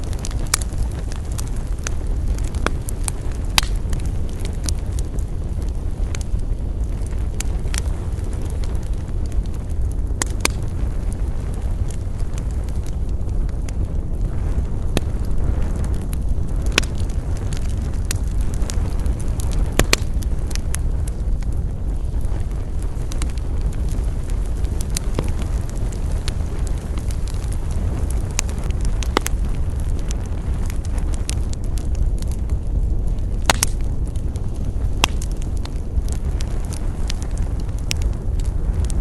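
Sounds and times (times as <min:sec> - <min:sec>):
campfire flames rumbling: 0:00.0 - 0:39.0
fire crackling and popping: 0:00.0 - 0:39.0.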